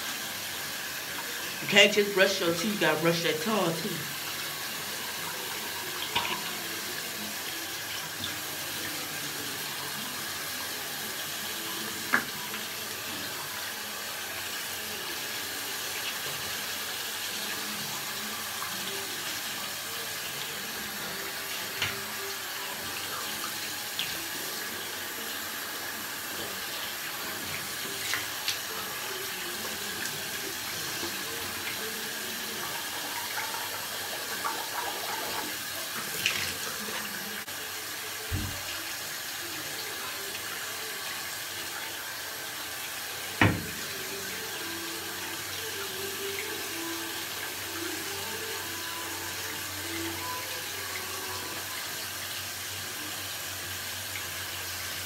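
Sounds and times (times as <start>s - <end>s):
water running from sink tap: 0.0s - 55.0s.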